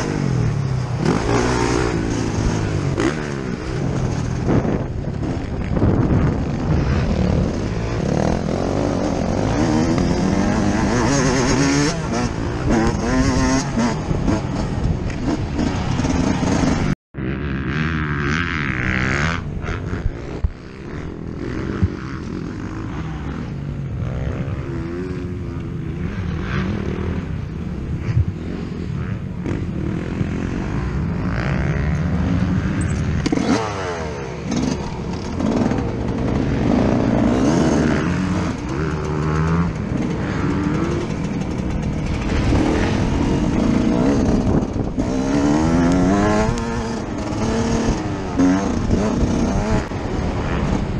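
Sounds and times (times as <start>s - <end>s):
motocross engine revving: 0.0s - 27.4s, 28.3s - 50.9s.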